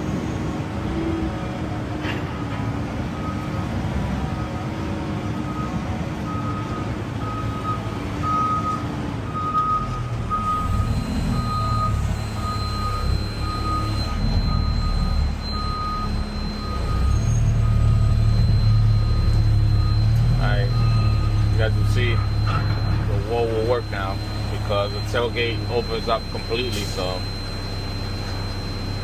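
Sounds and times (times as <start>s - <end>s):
diesel engine rumble: 0.0s - 29.0s
truck reversing beeper: 0.0s - 29.0s.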